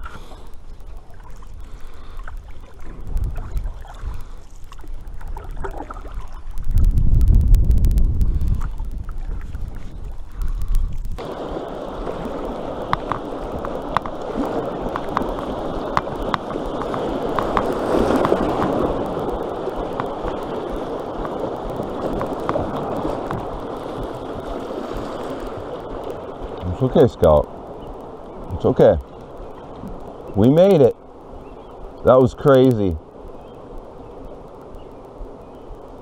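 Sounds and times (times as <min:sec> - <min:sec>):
water splashes: 0:00.0 - 0:36.0
wind buffeting microphone: 0:00.0 - 0:36.0.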